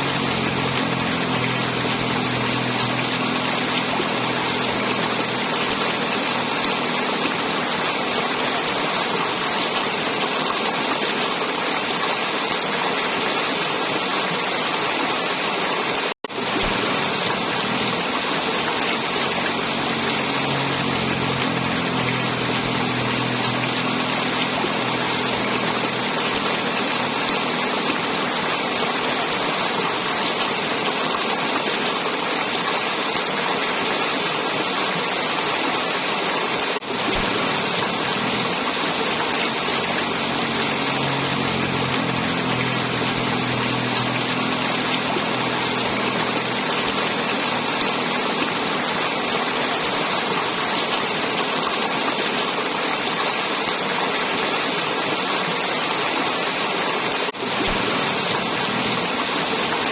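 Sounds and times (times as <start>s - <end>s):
river water flowing and gurgling: 0.0s - 59.9s.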